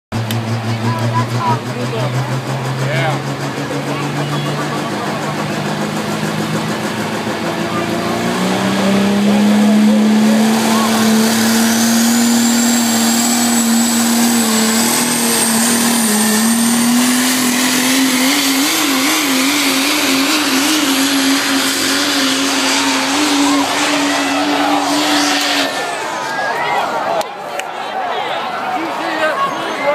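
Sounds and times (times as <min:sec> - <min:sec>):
diesel engine at full throttle: 0:00.1 - 0:27.9.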